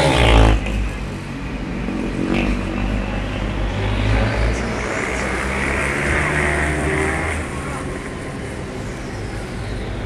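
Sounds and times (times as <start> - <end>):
racing motorcycle engines: 0.0 - 10.0.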